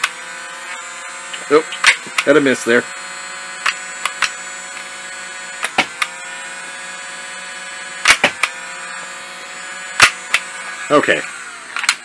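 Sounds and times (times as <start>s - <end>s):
flywheel motors whining: 0.0s - 12.0s.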